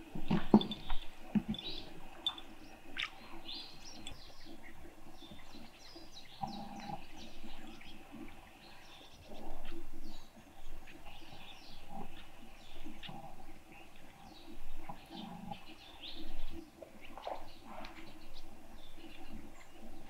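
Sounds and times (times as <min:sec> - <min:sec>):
small birds chirping: 0:00.2 - 0:20.0.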